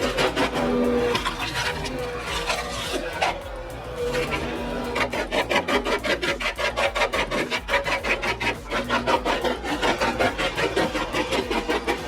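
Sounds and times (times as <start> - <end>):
rapid rasping strokes: 0.0 - 12.0.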